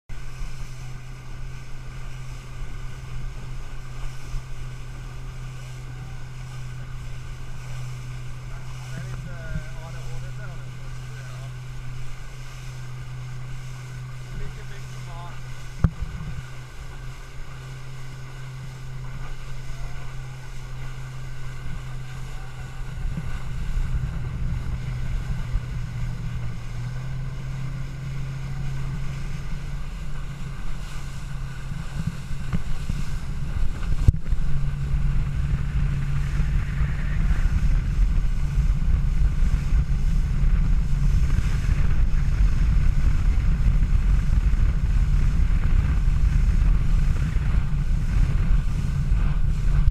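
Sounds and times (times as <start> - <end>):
boat engine running: 0.0 - 49.9
wind buffeting microphone: 0.1 - 49.9.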